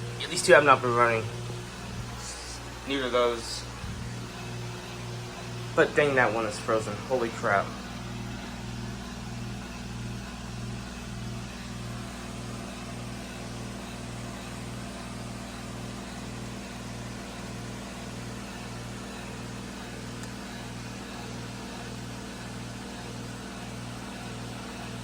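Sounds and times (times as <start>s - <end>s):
heat pump compressor humming: 0.0s - 25.0s.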